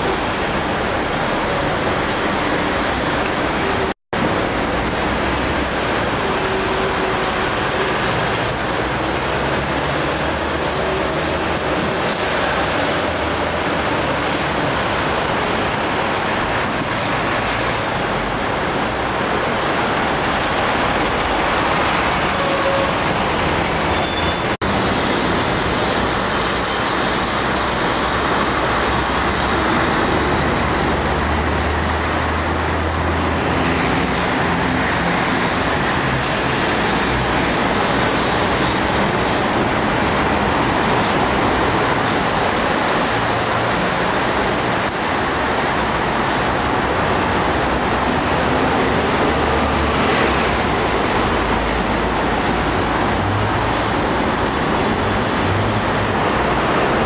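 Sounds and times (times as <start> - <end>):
city street traffic: 0.0 - 57.0.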